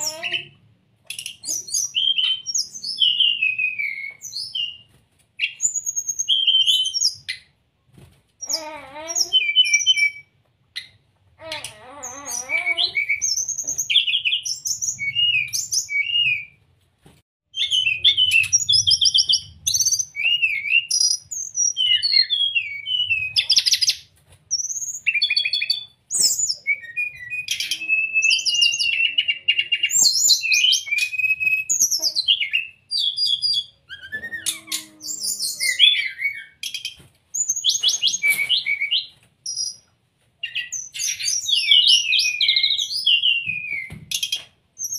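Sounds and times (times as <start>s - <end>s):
bird singing whistles and trills: 0.0s - 7.5s, 8.4s - 10.9s, 12.0s - 16.6s, 17.6s - 39.8s, 40.4s - 44.9s.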